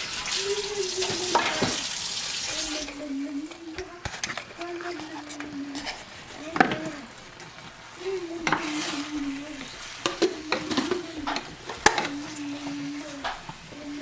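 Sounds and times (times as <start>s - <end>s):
food sizzling in a pan: 0.0s - 3.3s, 5.6s - 14.0s
spoon stirring and scraping pan: 0.0s - 14.0s.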